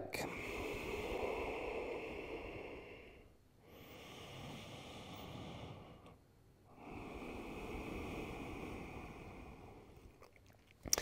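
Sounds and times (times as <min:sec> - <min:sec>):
person breathing slowly: 0:00.2 - 0:10.2.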